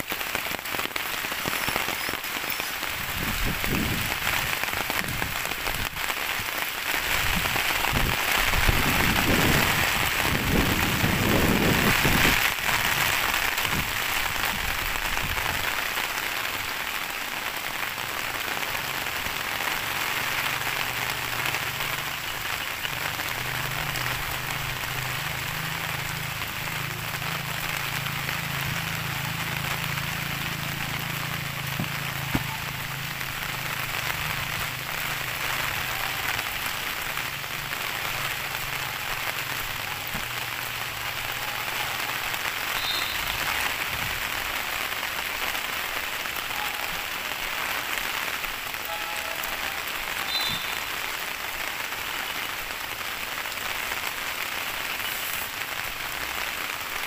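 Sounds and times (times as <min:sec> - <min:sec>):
heavy rain on grass and leaves: 0:00.0 - 0:57.0.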